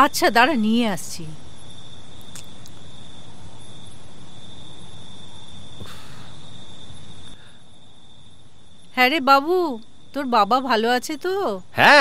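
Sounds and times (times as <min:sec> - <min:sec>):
crickets trilling: 0:00.0 - 0:12.0
soft background hiss: 0:00.0 - 0:12.0.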